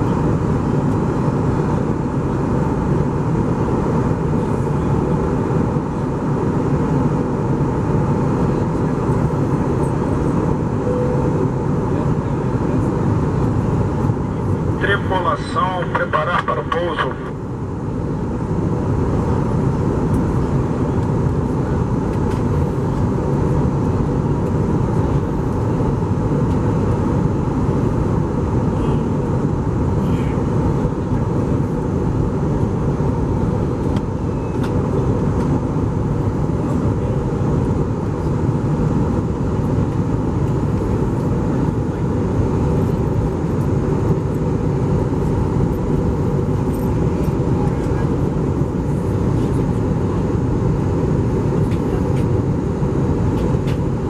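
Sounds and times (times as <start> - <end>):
air noise: 0.0 - 54.0
airplane cabin engine hum: 0.0 - 54.0.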